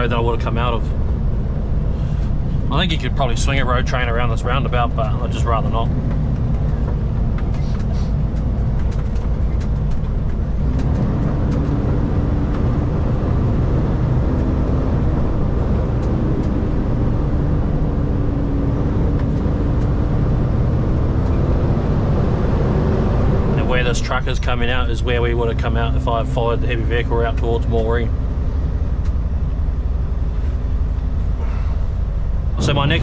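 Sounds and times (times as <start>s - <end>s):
engine drone: 0.0s - 33.0s
truck engine and road rumble: 0.0s - 33.0s.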